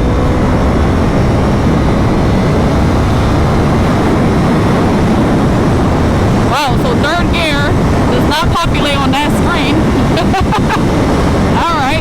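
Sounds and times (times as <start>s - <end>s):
motorcycle engine: 0.0s - 12.0s
wind rushing over microphone: 0.0s - 12.0s.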